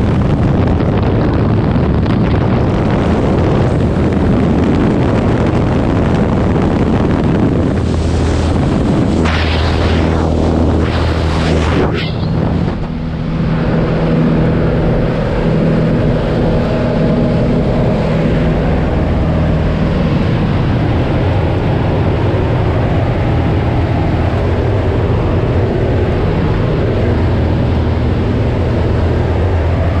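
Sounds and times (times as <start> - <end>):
propeller aircraft engine droning: 0.0 - 30.0.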